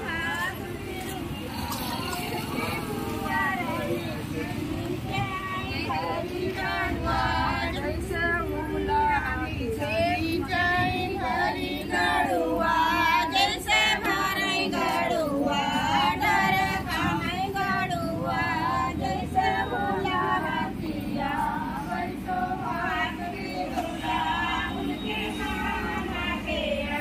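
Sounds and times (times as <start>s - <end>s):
women singing together: 0.0s - 27.0s.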